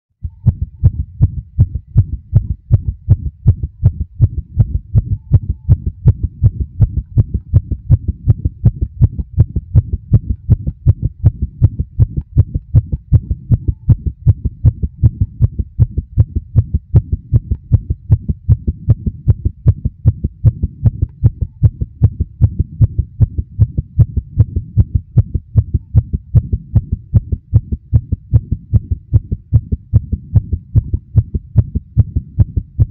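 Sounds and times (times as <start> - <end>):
heartbeat thumps: 0.2 - 32.9.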